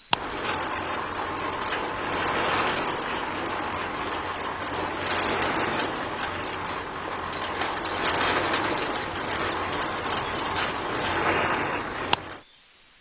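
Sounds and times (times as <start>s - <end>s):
rapid clicks: 0.0s - 12.4s
rattling drivetrain: 0.0s - 12.4s.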